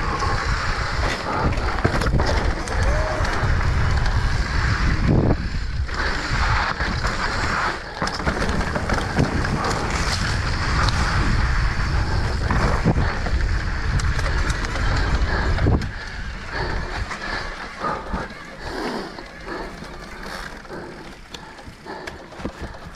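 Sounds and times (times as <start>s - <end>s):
bike tyres rumbling on dirt: 0.0s - 22.9s
wind buffeting microphone: 0.0s - 22.9s
bike knocks and rattles: 0.7s - 22.9s.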